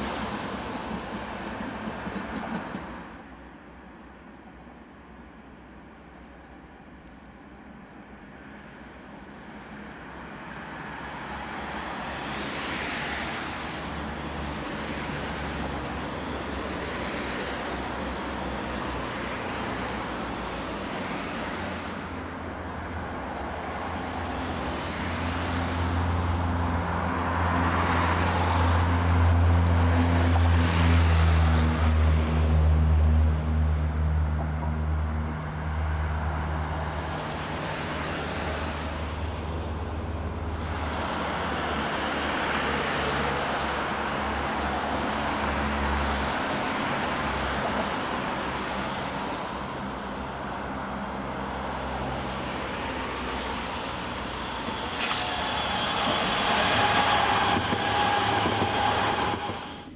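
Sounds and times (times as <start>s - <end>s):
cars swishing by: 0.0s - 3.3s, 8.4s - 59.9s.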